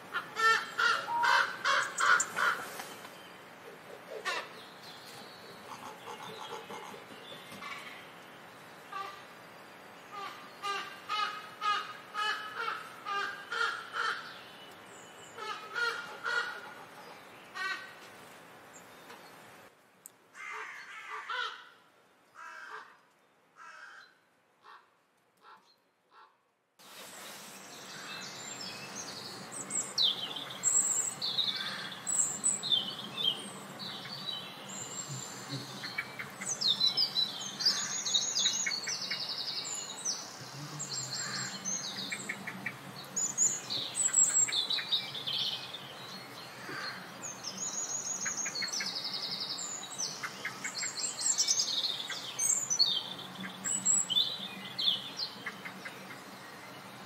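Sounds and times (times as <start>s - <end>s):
songbirds chirping and trilling: 0.0s - 26.2s, 27.2s - 57.0s
outdoor background hiss: 0.0s - 57.0s.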